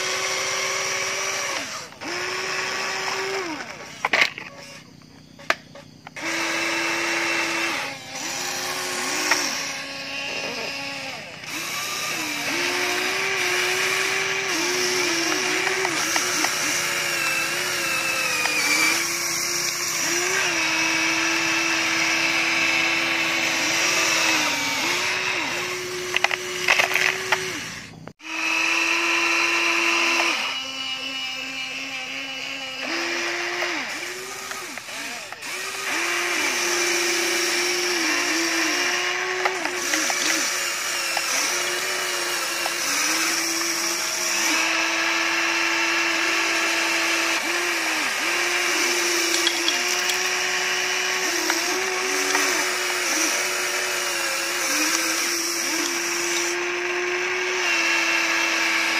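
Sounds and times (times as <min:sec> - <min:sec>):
toy excavator electric motors whining: 0:00.0 - 0:58.9.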